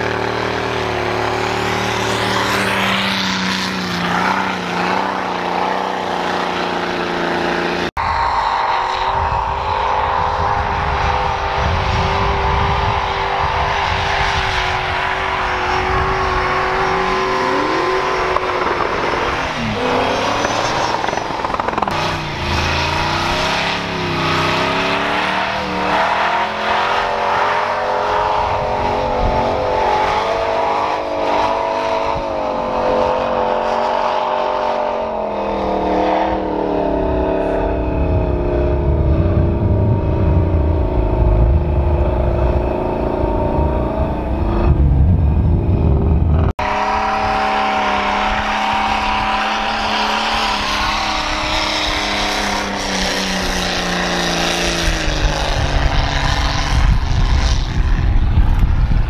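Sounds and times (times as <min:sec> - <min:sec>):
engines revving high: 0:00.0 - 0:59.0.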